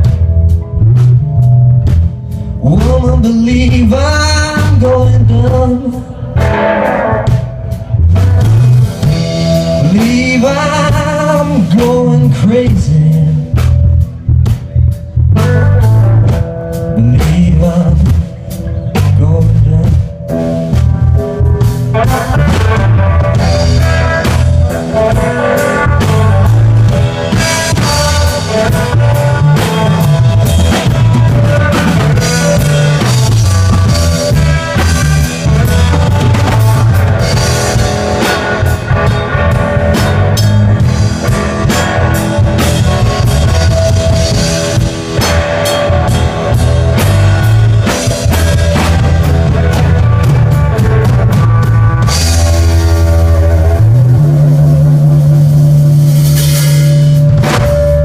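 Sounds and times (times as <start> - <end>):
bass guitar: 0.0 - 58.0
drum-kit beat: 0.0 - 58.0
electric guitar: 0.0 - 58.0.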